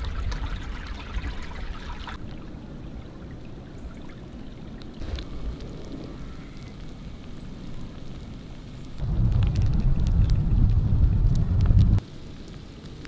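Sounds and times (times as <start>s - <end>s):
creek water trickling: 0.0s - 11.4s.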